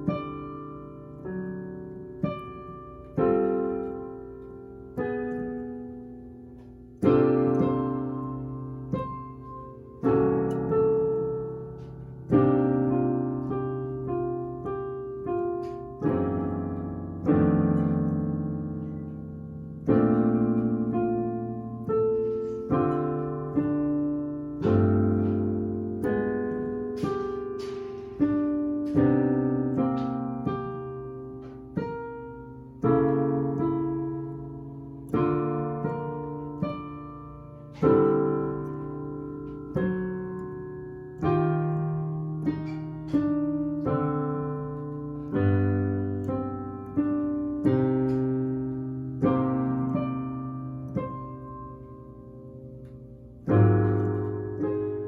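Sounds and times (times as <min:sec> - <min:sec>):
solo piano chords: 0:00.0 - 0:55.0.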